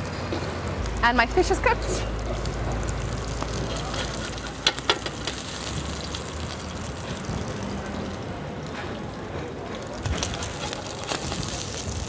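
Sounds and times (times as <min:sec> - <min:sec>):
fish sizzling on a griddle: 0:00.1 - 0:12.0.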